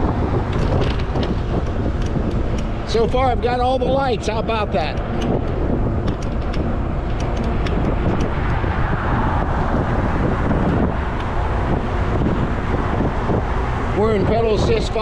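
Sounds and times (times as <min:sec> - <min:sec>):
bike clicks and rattles: 0:00.0 - 0:13.7
road noise: 0:00.0 - 0:15.0
wind rushing over microphone: 0:00.0 - 0:15.0.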